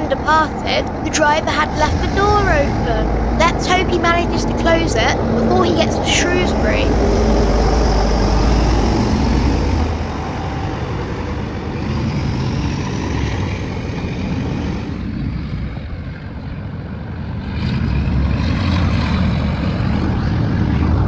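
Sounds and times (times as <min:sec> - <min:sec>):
diesel locomotive engine working: 0:00.0 - 0:21.0.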